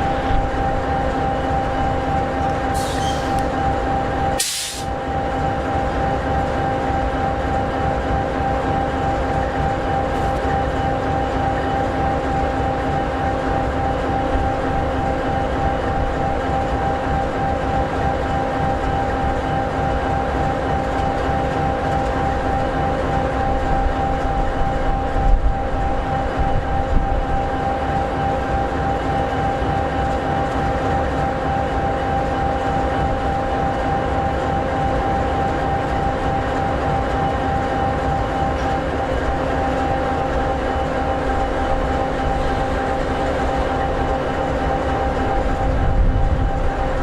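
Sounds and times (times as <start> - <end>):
diesel locomotive idling: 0.0 - 47.0.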